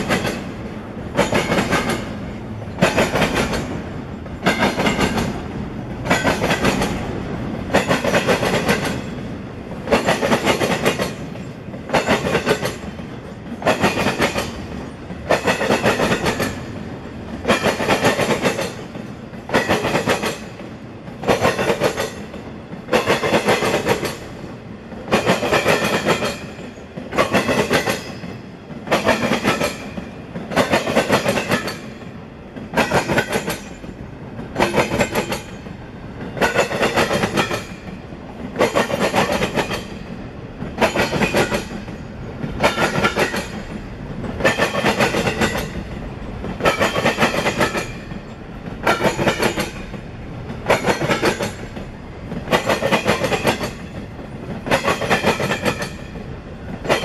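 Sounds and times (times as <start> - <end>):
train rumble: 0.0 - 57.0
train wheels clattering: 0.0 - 57.0.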